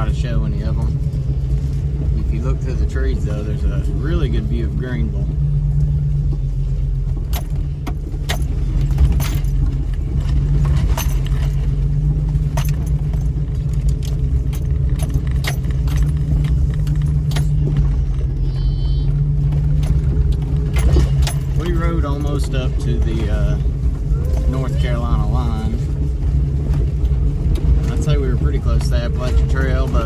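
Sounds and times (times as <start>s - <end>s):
low engine drone: 0.0s - 30.0s
rattles and jingling in vehicle: 0.0s - 30.0s.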